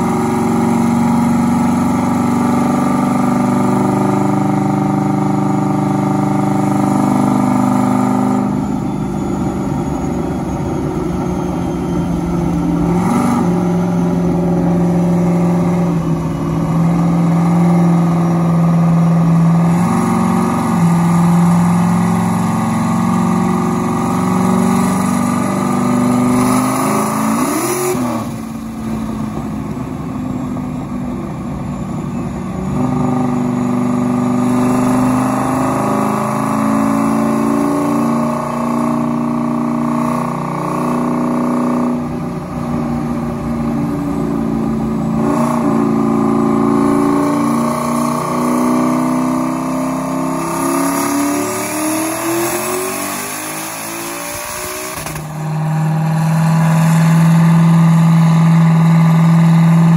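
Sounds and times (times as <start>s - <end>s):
car engine revving on dyno: 0.0s - 59.9s.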